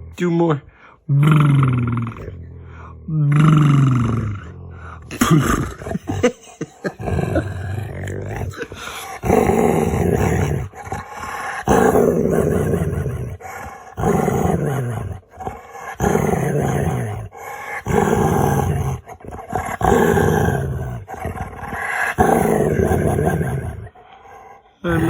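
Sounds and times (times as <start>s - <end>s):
dog howling and grumbling: 1.1s - 24.0s.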